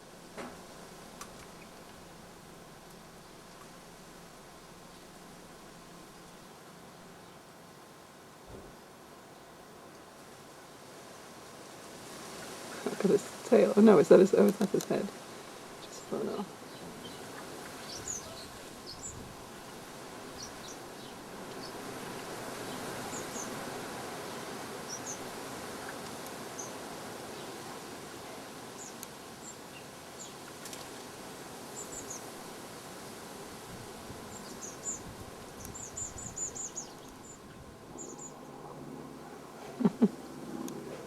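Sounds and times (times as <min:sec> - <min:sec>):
outdoor background hiss: 0:00.0 - 0:41.0
small birds chirping: 0:00.5 - 0:07.5, 0:12.8 - 0:32.4, 0:33.1 - 0:41.0.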